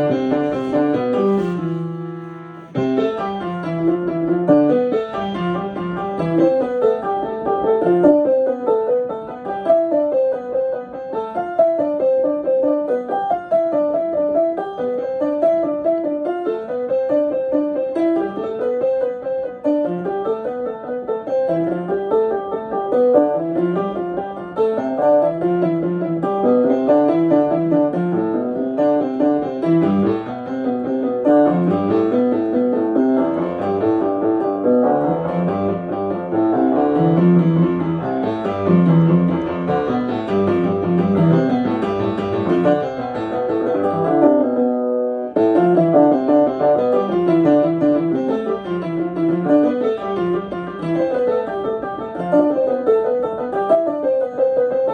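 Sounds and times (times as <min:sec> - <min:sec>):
piano playing fast runs: 0:00.0 - 0:54.9.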